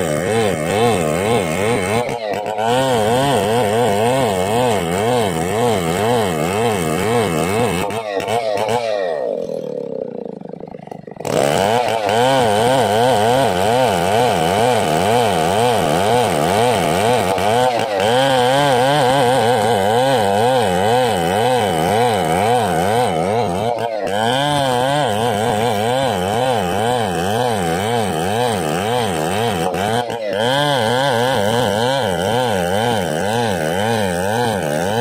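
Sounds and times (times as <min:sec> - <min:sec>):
chainsaw cutting log: 0:00.0 - 0:35.0.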